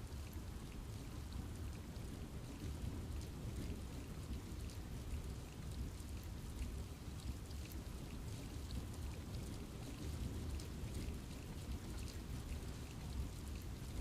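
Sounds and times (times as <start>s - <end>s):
rain falling low rumble: 0.0s - 14.0s
raindrops ticking on leaves: 0.1s - 14.0s.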